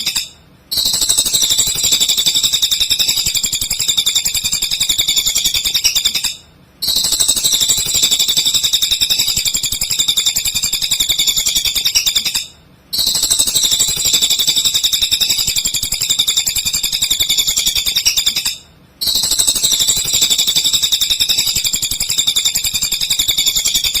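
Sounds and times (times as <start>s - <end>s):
bird chattering song: 0.0s - 24.0s.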